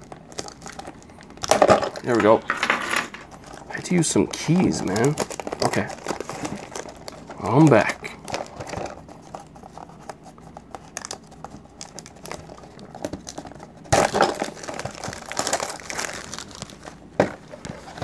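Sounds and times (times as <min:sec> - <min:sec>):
plastic shrink-wrap crinkling: 0:00.0 - 0:02.4, 0:03.2 - 0:18.0.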